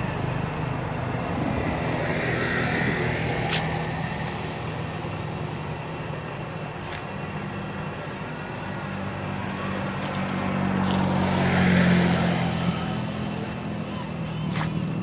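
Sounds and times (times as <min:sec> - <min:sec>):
vehicle engine hum passing: 0:00.0 - 0:15.0.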